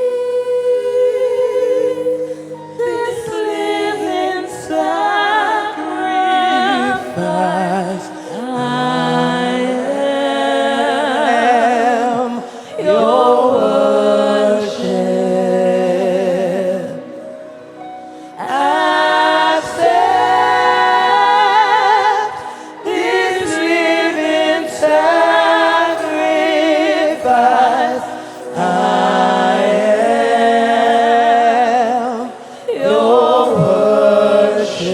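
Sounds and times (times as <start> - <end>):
lead voice singing: 0.0 - 17.3, 18.4 - 34.9
choir singing: 0.0 - 34.9.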